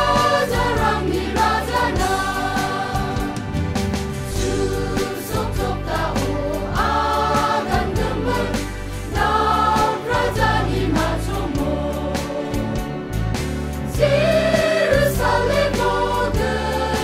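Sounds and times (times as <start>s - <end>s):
mixed choir singing a hymn: 0.0s - 17.0s.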